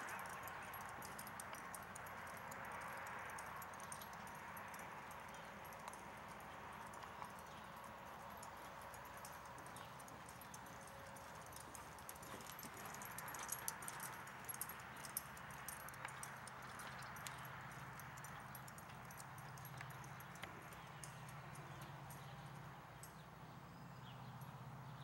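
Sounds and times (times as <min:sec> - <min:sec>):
hoofbeats on soft sand: 0:00.0 - 0:22.4
tack clicking and jingling: 0:00.0 - 0:23.2.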